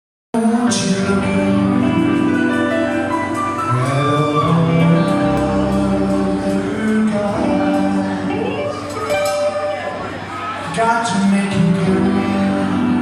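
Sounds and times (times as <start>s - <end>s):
person singing long notes: 0.4s - 13.0s
rockabilly band playing: 0.4s - 13.0s.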